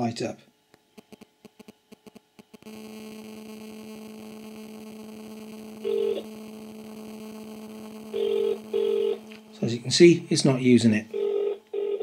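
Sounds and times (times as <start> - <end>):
steady electrical buzz: 0.0 - 12.0.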